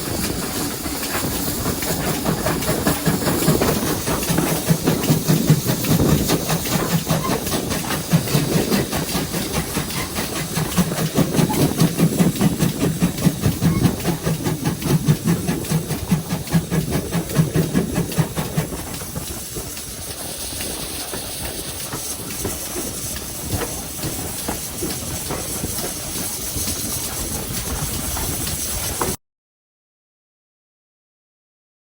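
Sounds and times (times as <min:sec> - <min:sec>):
steam hiss: 0:00.0 - 0:29.2
steam locomotive pulsing rumble: 0:00.0 - 0:29.2.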